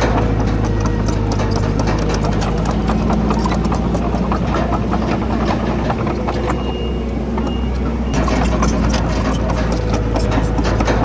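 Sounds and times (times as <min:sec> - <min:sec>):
sharp clattering knocks: 0:00.0 - 0:06.7, 0:08.1 - 0:11.0
bulldozer diesel engine running: 0:00.0 - 0:11.0.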